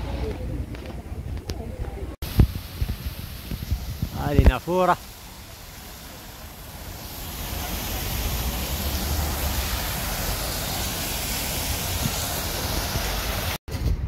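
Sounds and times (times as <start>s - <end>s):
fountain water splashing: 2.2s - 13.6s.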